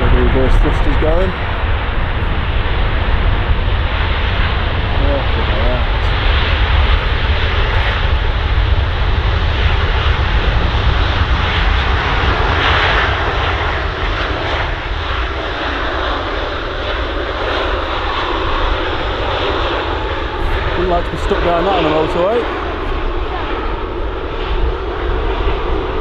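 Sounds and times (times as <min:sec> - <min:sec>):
jet engines reverse thrust rumble: 0:00.0 - 0:26.0.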